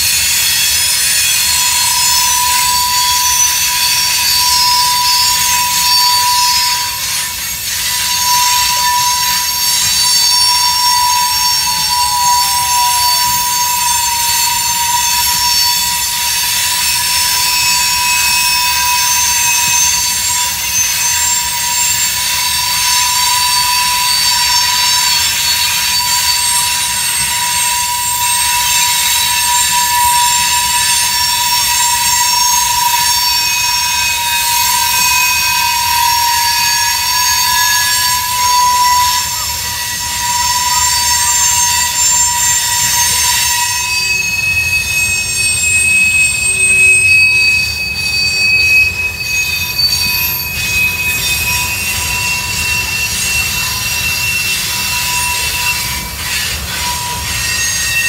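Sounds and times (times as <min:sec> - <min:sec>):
freight train cars rolling on rails: 0:00.0 - 0:58.0
train wheels squealing: 0:00.0 - 0:58.0.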